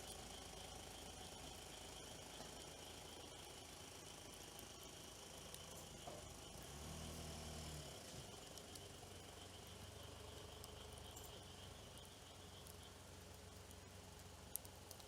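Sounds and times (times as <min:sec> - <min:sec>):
campfire crackling: 0:00.0 - 0:15.0
insect chirring: 0:00.0 - 0:15.0.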